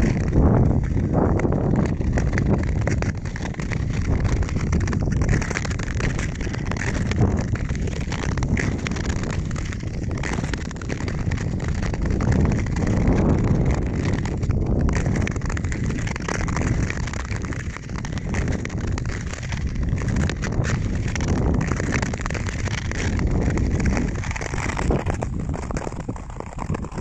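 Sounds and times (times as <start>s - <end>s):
ice skate blades scraping ice: 0.0s - 27.0s
wind buffeting microphone: 0.0s - 27.0s.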